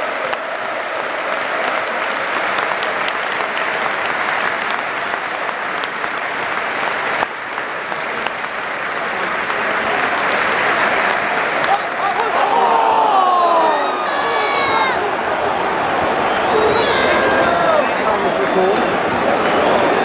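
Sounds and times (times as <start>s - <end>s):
crowd clapping and applauding: 0.0s - 20.0s.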